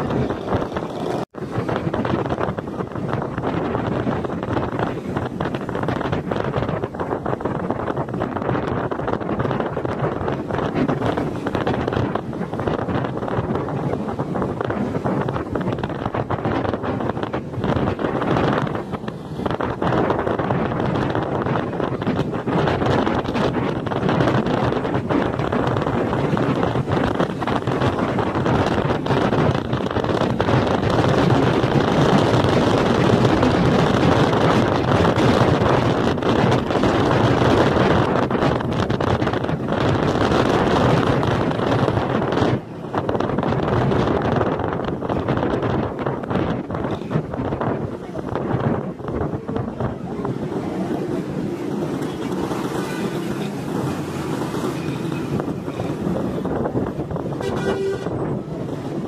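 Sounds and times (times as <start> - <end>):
road noise: 0.0 - 59.0
wind buffeting microphone: 0.0 - 59.0.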